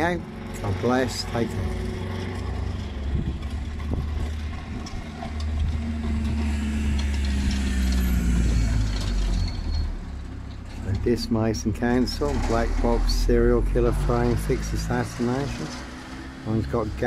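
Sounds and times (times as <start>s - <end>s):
van engine rumble driving past: 0.0s - 17.0s.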